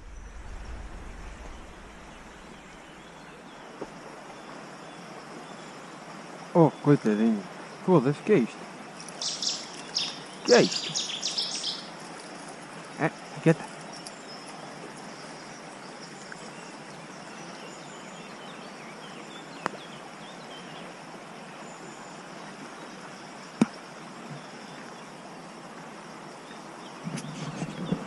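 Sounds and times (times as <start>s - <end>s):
running water rushing: 0.0s - 28.0s
small birds chirping faintly: 0.0s - 28.0s.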